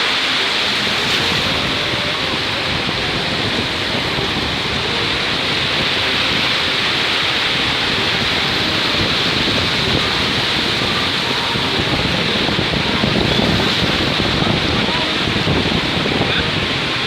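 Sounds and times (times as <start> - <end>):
surf washing onto beach: 0.0 - 17.0.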